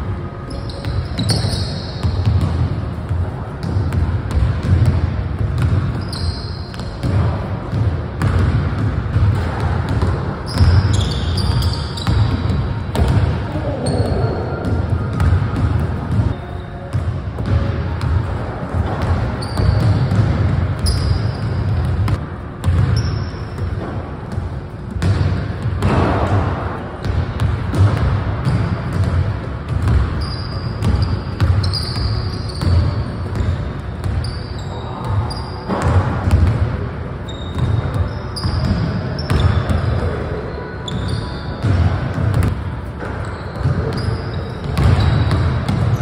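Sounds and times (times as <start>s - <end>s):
sneaker squeaks: 0.4s - 4.6s, 5.6s - 7.4s, 9.1s - 24.0s, 28.4s - 36.5s, 37.1s - 46.0s
basketballs bouncing on hardwood floor: 0.6s - 34.4s, 35.0s - 40.0s, 41.6s - 46.0s.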